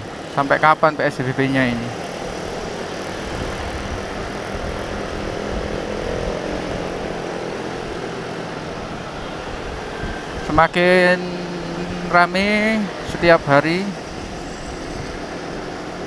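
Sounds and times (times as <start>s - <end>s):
faint engine drone: 0.0s - 16.0s
motorcycle engine: 0.0s - 16.0s
wind rushing: 2.0s - 16.0s.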